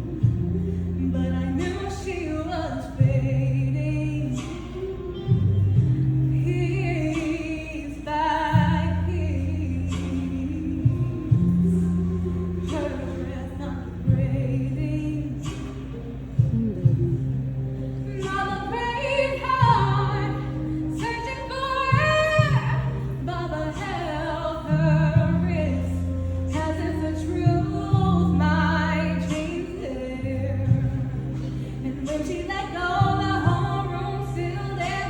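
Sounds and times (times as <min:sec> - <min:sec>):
held low notes: 0:00.0 - 0:35.0
person singing: 0:00.0 - 0:35.0.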